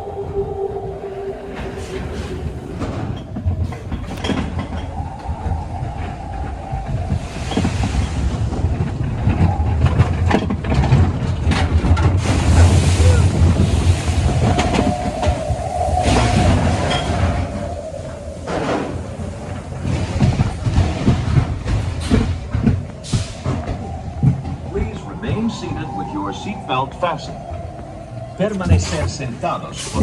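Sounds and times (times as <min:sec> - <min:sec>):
roller coaster rumbling on track: 0:00.0 - 0:30.0
wheels clattering: 0:00.0 - 0:30.0.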